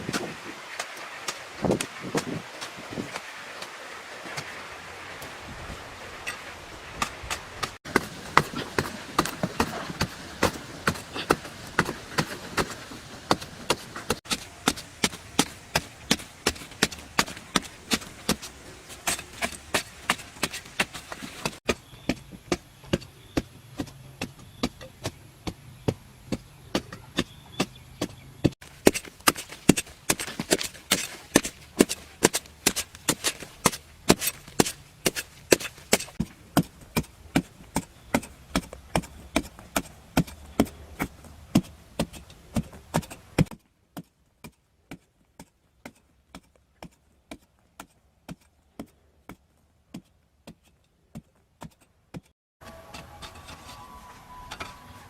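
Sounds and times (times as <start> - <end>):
hand tool chopping: 7.0 - 53.8.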